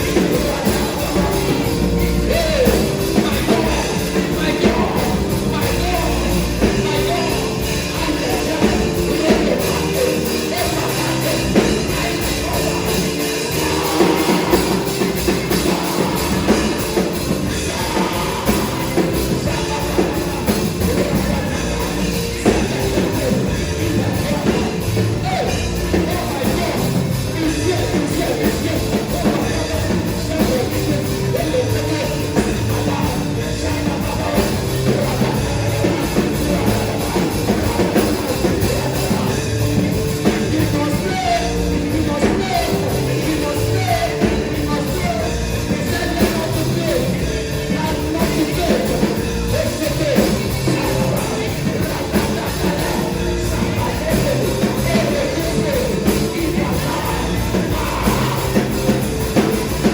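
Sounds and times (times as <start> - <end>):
band playing: 0.0 - 59.9
voices singing gospel: 0.0 - 59.9.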